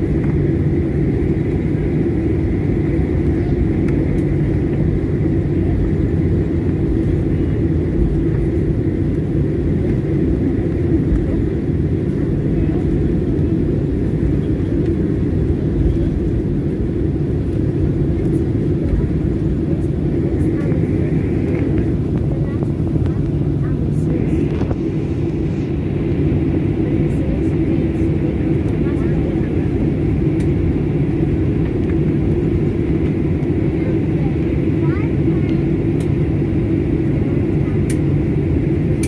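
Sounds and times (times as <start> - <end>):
airliner rolling on taxiway: 0.0 - 39.0
low rumble of jet engines: 0.0 - 39.0.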